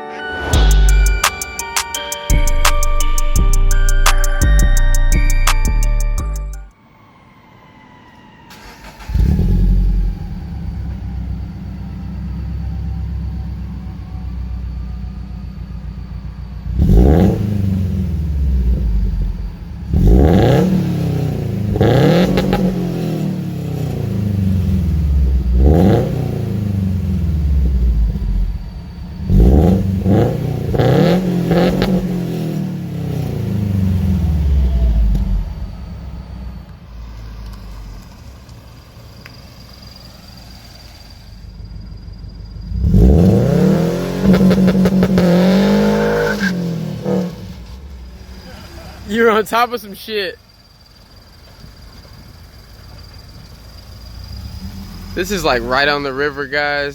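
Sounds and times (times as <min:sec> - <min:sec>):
car engine rumbling and revving: 0:08.5 - 0:56.9.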